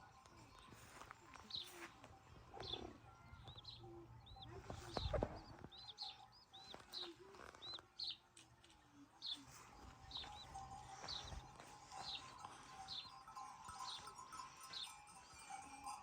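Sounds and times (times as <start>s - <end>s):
small bird chirping: 0.3s - 8.5s, 9.1s - 15.2s.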